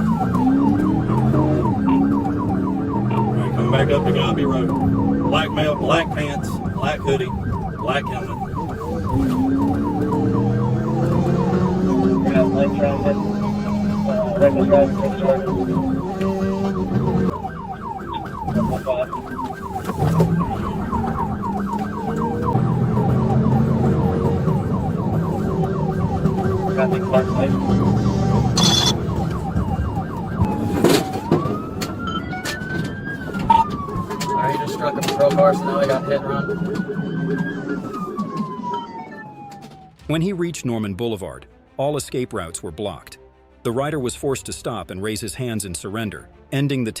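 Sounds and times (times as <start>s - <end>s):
car engine revving: 0.0s - 39.8s
police siren yelp and wail: 0.0s - 40.2s.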